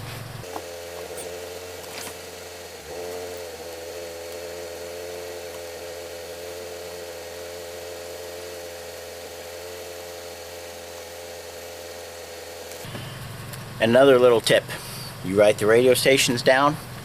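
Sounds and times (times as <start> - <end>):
steady electric hum: 0.0 - 17.0.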